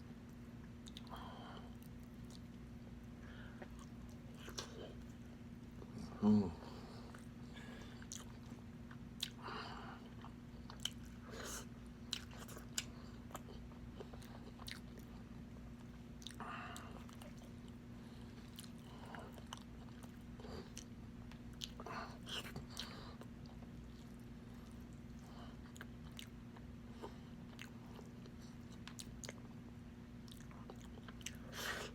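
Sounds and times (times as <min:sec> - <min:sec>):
chewing: 0:00.8 - 0:02.6, 0:03.4 - 0:05.2, 0:07.0 - 0:09.4, 0:10.0 - 0:29.6, 0:30.2 - 0:31.9.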